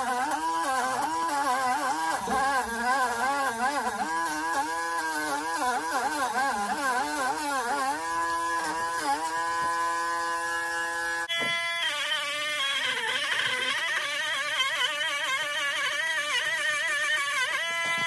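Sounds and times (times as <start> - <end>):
rotary tool whining: 0.0 - 18.0.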